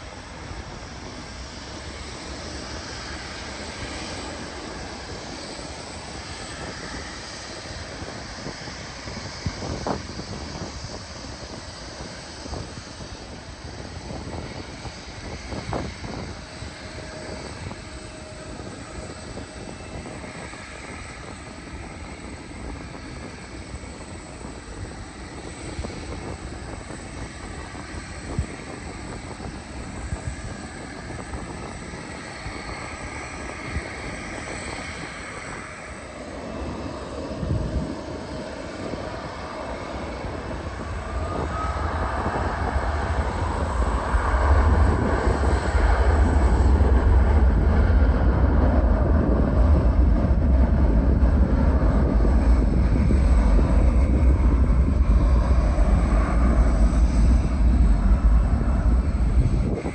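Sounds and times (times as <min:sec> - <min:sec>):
faint engine whine: 0:00.0 - 0:59.9
jet engines rumbling: 0:00.0 - 0:59.9.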